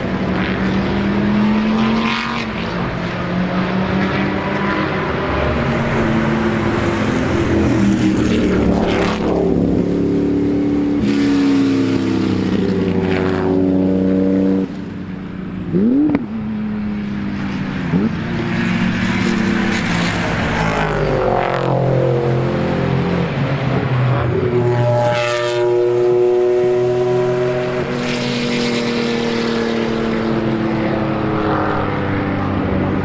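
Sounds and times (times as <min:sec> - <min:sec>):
racing car engines passing: 0:00.0 - 0:33.0.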